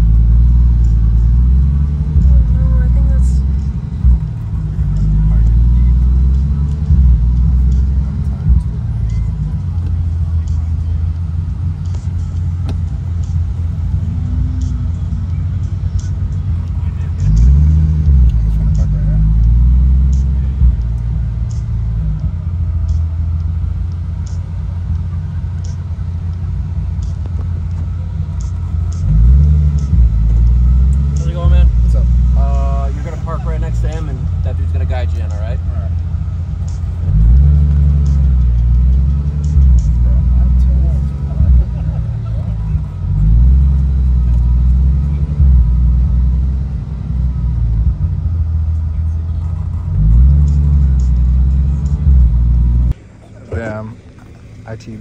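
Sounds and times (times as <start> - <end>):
car engine rumbling and revving: 0.0 - 55.0.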